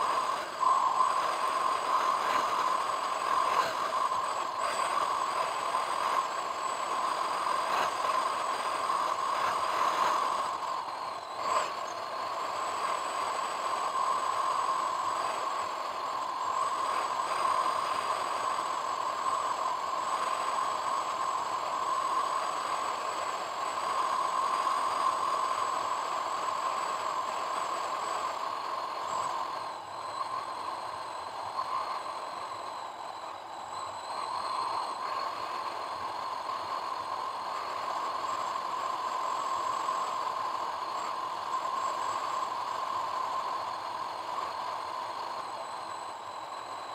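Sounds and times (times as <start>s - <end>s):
road and engine noise: 0.0s - 46.9s.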